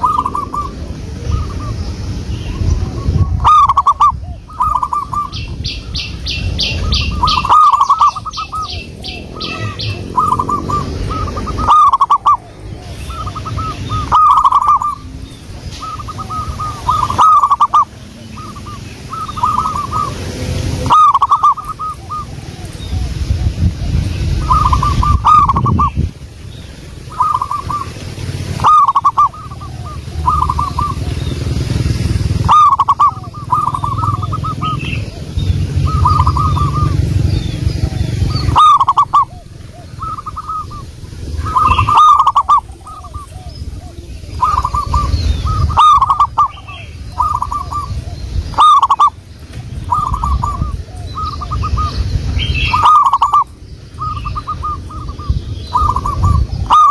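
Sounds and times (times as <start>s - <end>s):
doves cooing: 0.0s - 56.9s
small birds chirping: 0.0s - 56.9s.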